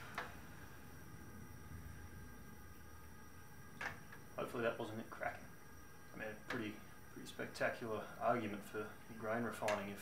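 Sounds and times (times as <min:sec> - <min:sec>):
gas burner hissing: 0:00.0 - 0:10.0
low hum of burner: 0:00.0 - 0:10.0.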